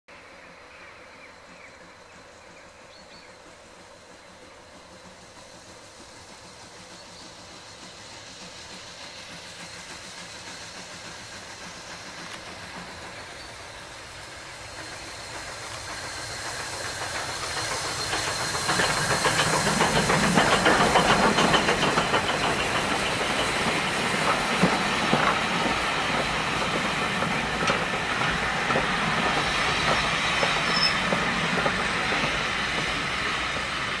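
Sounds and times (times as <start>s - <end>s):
steam locomotive exhaust: 1.7s - 34.0s
train wheels clicking on rail joints: 2.5s - 34.0s.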